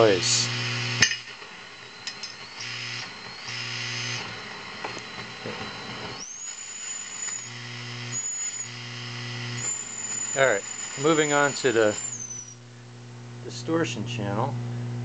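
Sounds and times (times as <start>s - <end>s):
amp feedback squeal: 0.0s - 12.8s
mains hum: 0.0s - 15.0s.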